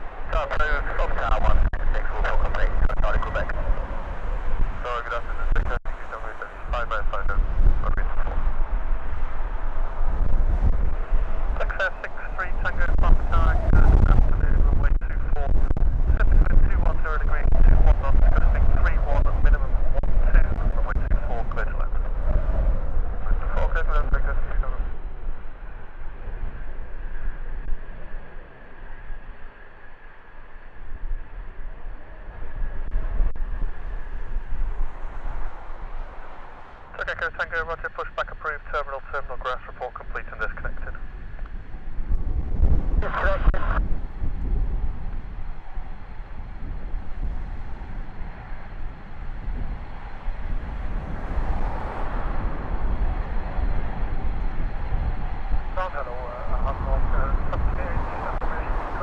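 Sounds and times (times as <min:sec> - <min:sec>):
jet engines rushing: 0:00.0 - 0:59.0
wind buffeting microphone: 0:00.0 - 0:59.0.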